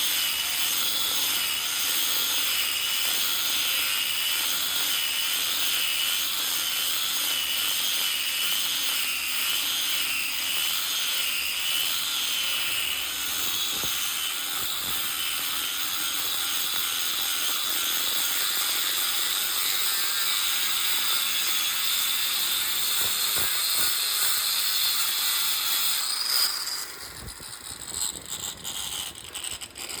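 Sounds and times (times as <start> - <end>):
angle grinder grinding steel: 0.0 - 30.0.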